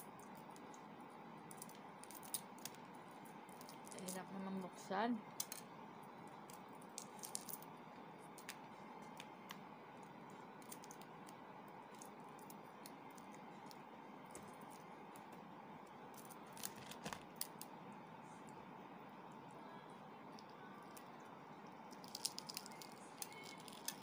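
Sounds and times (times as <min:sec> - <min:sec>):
egg shell being peeled: 0:00.0 - 0:04.2, 0:05.3 - 0:17.8, 0:20.3 - 0:24.0.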